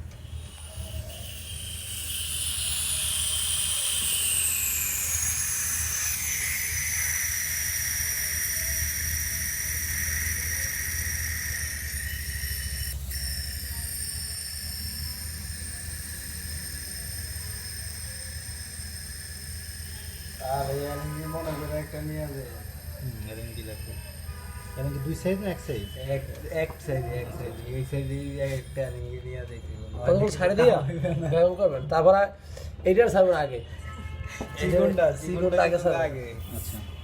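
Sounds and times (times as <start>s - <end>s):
gas hissing from valve: 0.0s - 29.0s, 34.6s - 37.0s
whistling tone: 0.0s - 30.7s.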